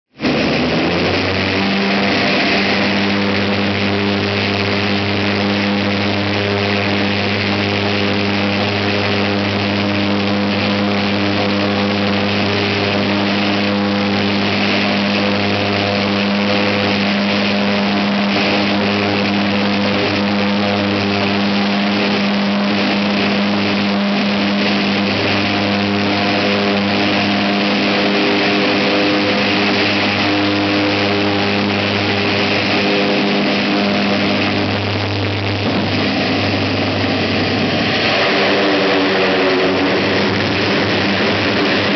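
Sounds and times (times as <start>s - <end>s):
turboprop engines droning: 0.1s - 41.9s.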